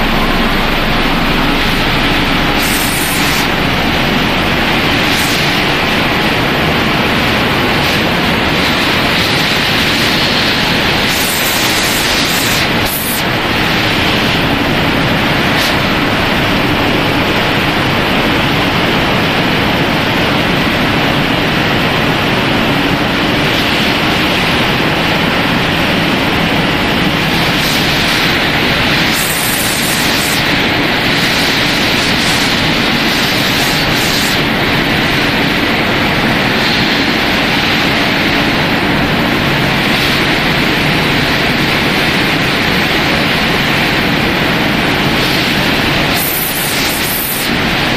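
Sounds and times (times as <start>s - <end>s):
faint steady hums: 0.0s - 47.9s
machinery rushing noise: 0.0s - 47.9s.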